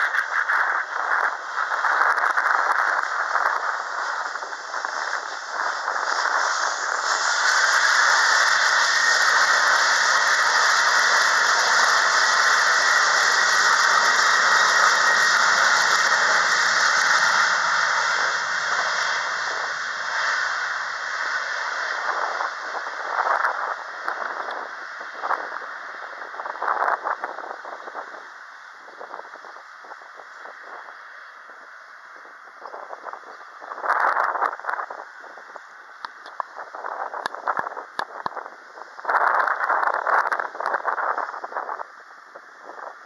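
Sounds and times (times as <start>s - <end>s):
jet engines at takeoff thrust: 0.0s - 43.0s.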